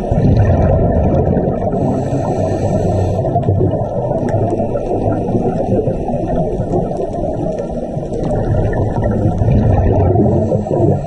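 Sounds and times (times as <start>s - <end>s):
muffled underwater rumble: 0.0s - 11.0s
scuba regulator bubbling: 0.0s - 11.0s.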